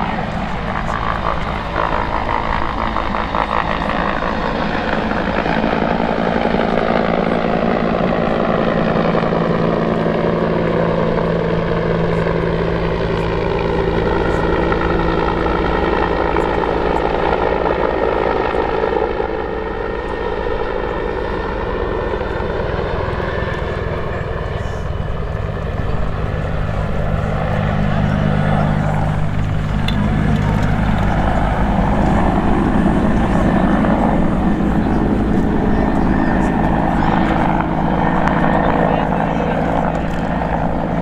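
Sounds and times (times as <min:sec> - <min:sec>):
helicopter flying past: 0:00.0 - 0:41.0.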